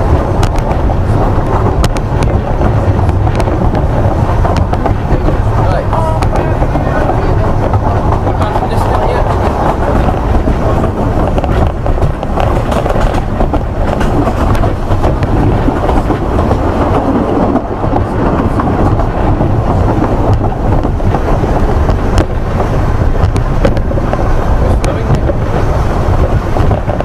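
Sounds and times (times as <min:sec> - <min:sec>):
clicks over rail joints: 0:00.0 - 0:27.0
train wheels rumbling on track: 0:00.0 - 0:27.0.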